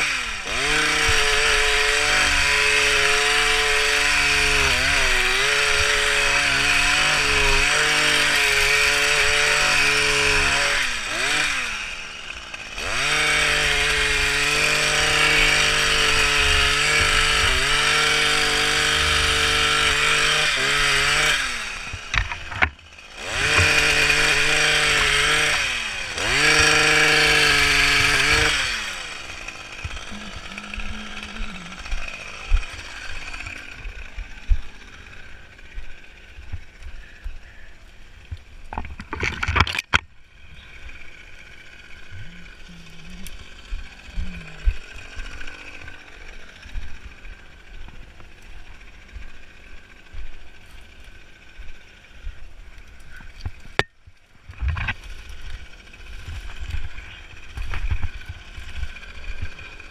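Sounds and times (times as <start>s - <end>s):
hedge trimmer engine revving: 0.0s - 59.9s.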